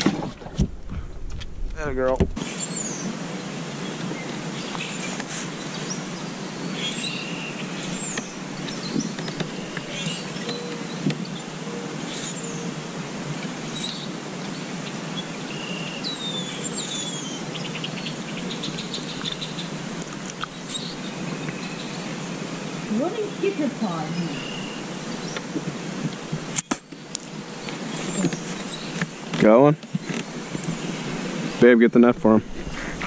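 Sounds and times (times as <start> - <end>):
steady background hiss: 1.7 - 33.0
small birds chirping: 2.4 - 31.7.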